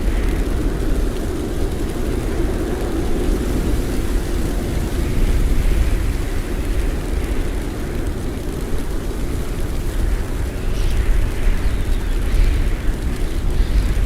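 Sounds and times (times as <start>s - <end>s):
blizzard wind howling: 0.0s - 14.0s.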